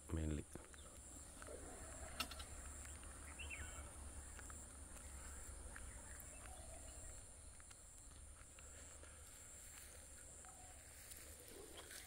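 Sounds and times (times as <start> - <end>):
bird chirp: 0.2 - 12.0.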